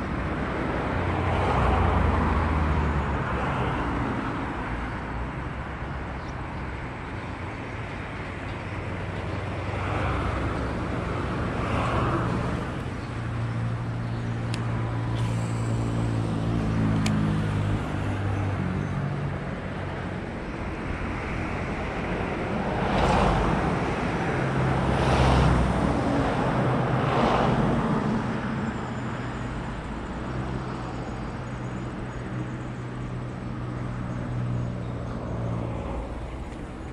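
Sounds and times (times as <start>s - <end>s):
cars passing by: 0.0s - 36.9s
engine hum of traffic: 0.0s - 36.9s.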